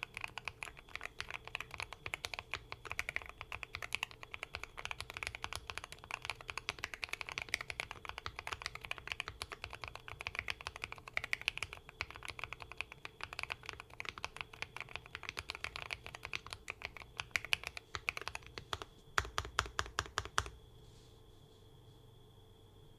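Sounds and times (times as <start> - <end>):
mechanical keyboard typing: 0.0 - 20.6.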